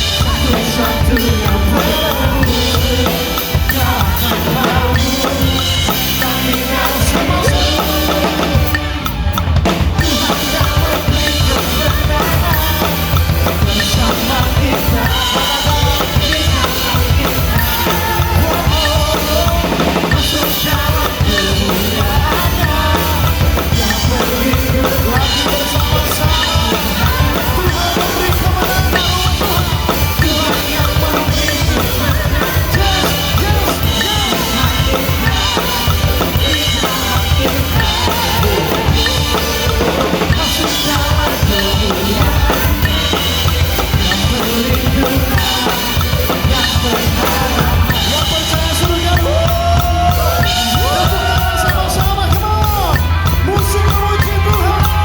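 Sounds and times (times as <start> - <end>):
backing track music: 0.0 - 55.0
fast drum kit playing: 0.0 - 55.0.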